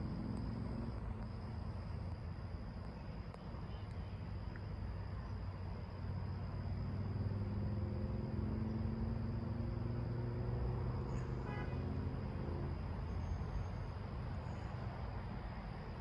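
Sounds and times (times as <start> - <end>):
outdoor background noise: 0.0 - 16.0
vehicle engine hum: 0.0 - 16.0.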